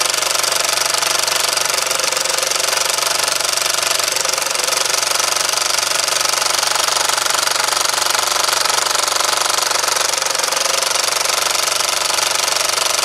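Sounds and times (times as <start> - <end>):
model steam engine chuffing: 0.0 - 13.0.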